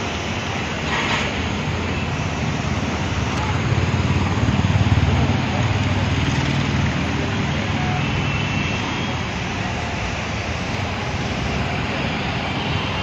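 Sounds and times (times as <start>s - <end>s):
traffic rumble of engines and tyres: 0.0s - 13.0s.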